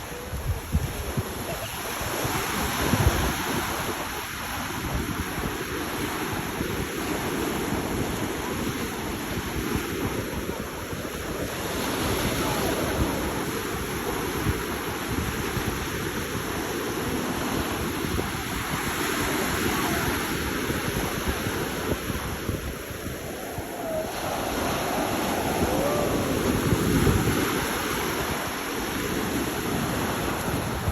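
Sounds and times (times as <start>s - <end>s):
ocean waves washing in: 0.0s - 30.9s
wind buffeting microphone: 0.0s - 30.9s.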